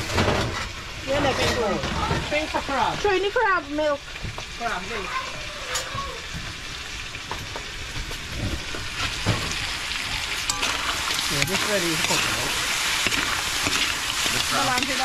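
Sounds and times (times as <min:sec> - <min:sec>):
crab sizzling in a pot: 0:00.0 - 0:15.0.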